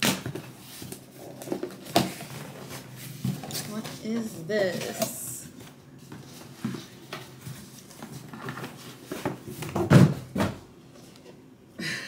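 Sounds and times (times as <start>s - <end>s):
cardboard package rustling: 0.0s - 9.9s.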